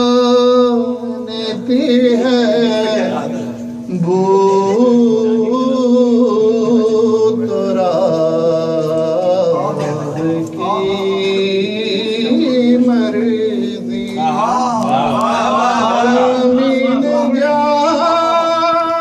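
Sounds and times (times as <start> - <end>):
man chanting devotional song: 0.0 - 19.0.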